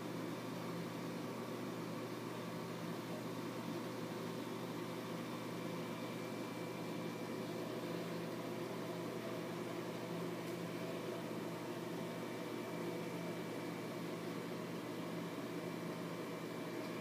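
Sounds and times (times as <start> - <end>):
aquarium pumps humming: 0.0 - 17.0.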